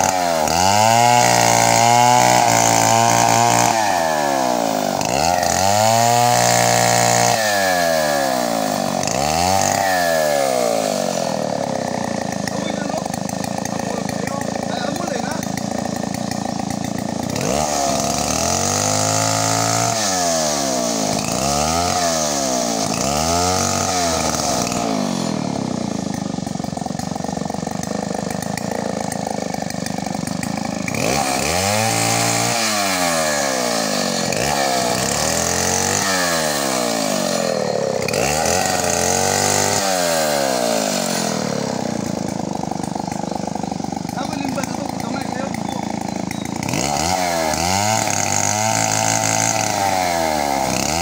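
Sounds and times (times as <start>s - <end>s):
chainsaw engine revving: 0.0s - 51.0s.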